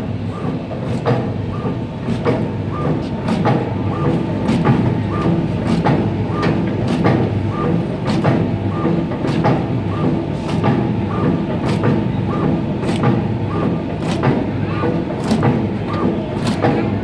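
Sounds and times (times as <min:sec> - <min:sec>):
slicing machine motor hum: 0:00.0 - 0:17.0.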